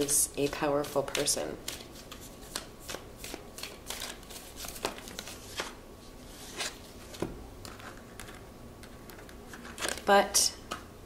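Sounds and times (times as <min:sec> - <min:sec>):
cards being shuffled: 0:00.0 - 0:10.1.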